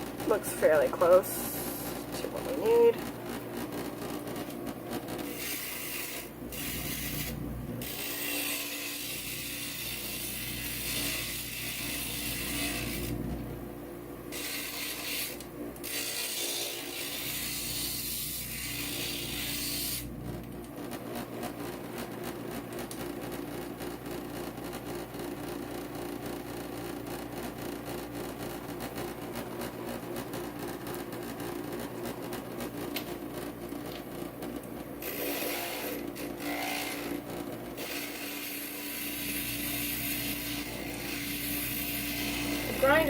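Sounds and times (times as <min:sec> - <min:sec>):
grinder motor hum: 0:00.0 - 0:43.0.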